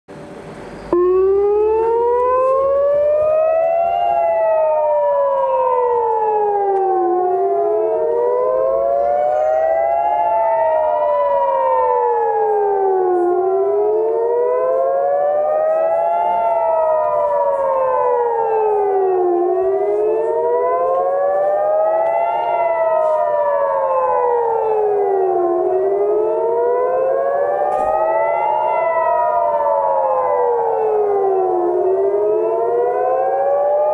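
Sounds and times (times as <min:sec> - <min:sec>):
air-raid sirens wailing: 0:00.2 - 0:33.9.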